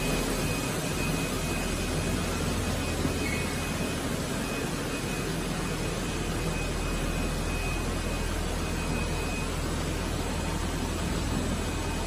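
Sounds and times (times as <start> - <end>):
low machine hum: 0.0 - 12.0
production line machine rushing: 0.0 - 12.0.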